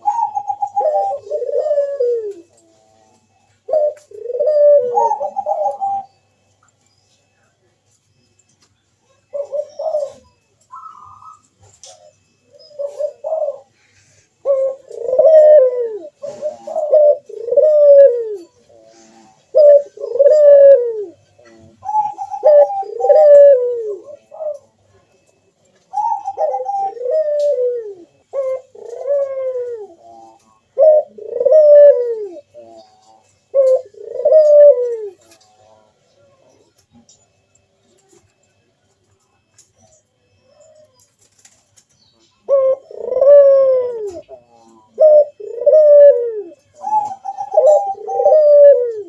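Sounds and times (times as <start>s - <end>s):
doves cooing: 0.0s - 49.0s.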